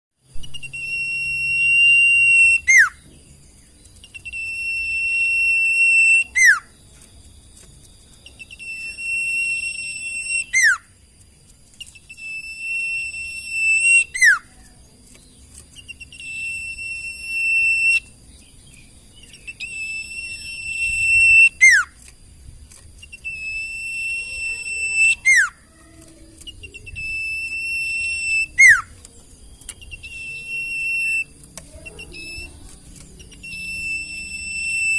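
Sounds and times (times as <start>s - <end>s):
bird whistling: 0.4s - 3.2s, 3.9s - 6.8s, 8.2s - 11.0s, 11.8s - 14.8s, 15.7s - 22.1s, 23.0s - 34.9s.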